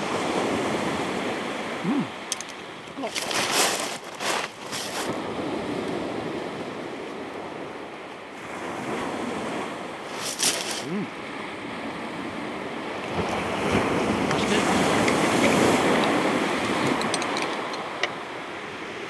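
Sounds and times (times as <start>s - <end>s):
waves washing on shingle: 0.0s - 7.8s, 8.4s - 19.0s.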